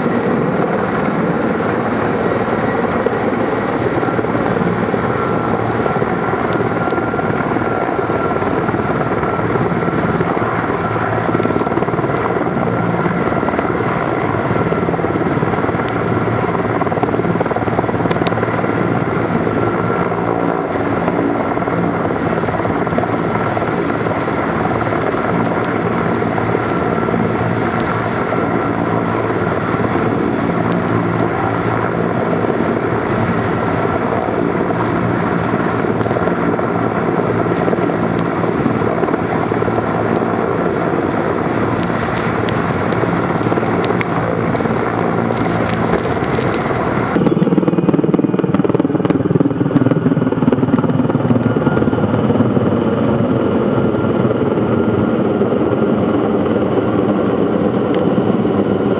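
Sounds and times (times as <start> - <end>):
helicopter rotor beating: 0.0 - 58.9
high turbine whine: 0.0 - 58.9.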